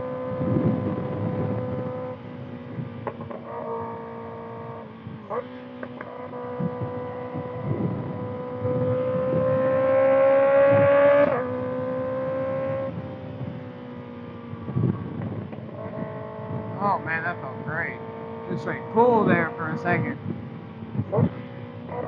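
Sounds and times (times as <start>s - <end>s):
wind buffeting microphone: 0.0s - 5.4s, 6.3s - 22.0s
motorcycle engine revving: 0.0s - 22.0s.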